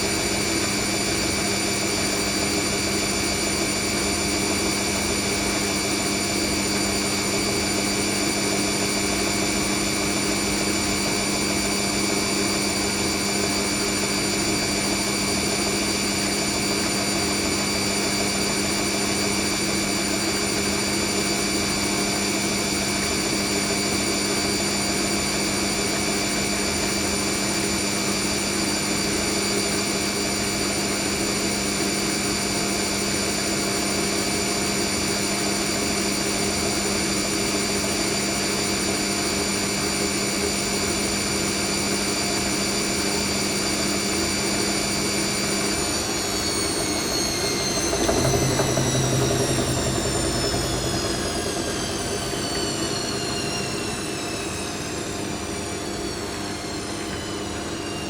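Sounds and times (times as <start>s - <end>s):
washing machine motor whine: 0.0s - 58.0s.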